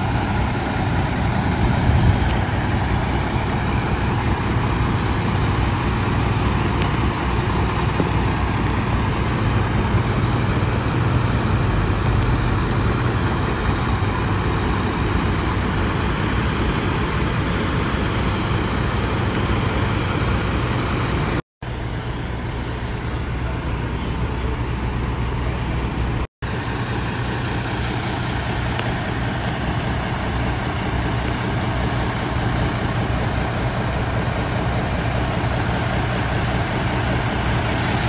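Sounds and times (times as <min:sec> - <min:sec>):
fire truck engines droning: 0:00.0 - 0:38.0.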